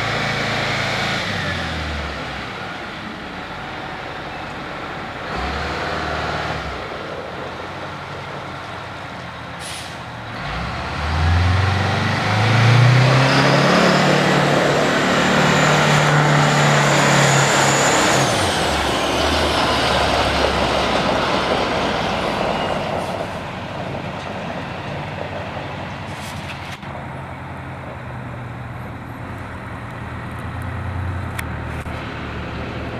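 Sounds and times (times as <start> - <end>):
diesel truck driving past: 0.0 - 32.9.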